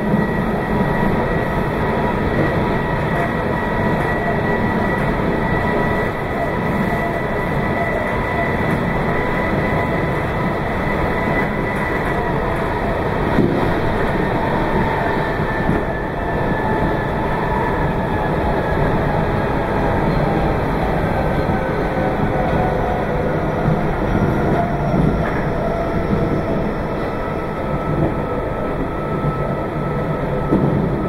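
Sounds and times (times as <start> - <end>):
train rolling on track: 0.0 - 31.0.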